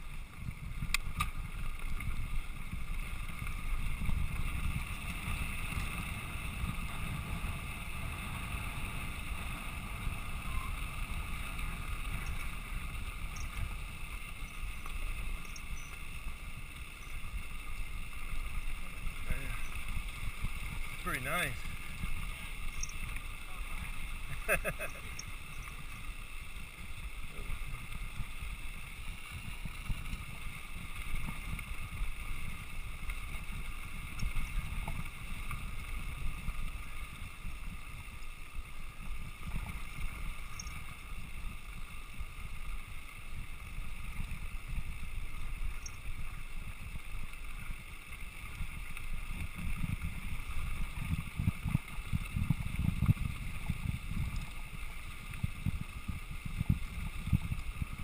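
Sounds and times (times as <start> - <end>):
bike tyres on rocky dirt road: 0.0 - 58.0
gravel crackling under wheels: 0.0 - 58.0
wind rumbling on microphone: 0.0 - 58.0.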